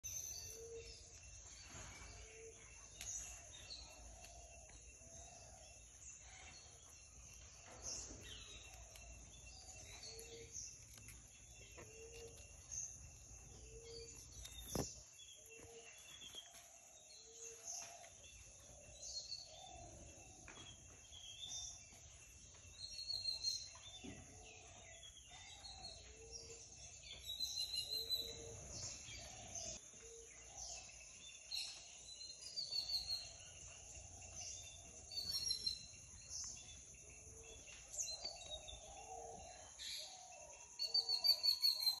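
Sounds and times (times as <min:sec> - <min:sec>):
birds chirping and calling: 0:00.0 - 0:42.0.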